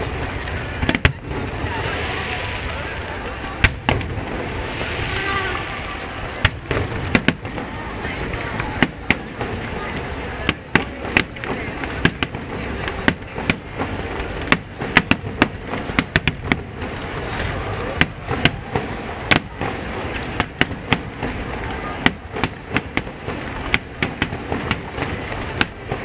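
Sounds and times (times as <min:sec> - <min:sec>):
background noise wash: 0:00.0 - 0:26.0
fireworks bangs: 0:00.0 - 0:26.0.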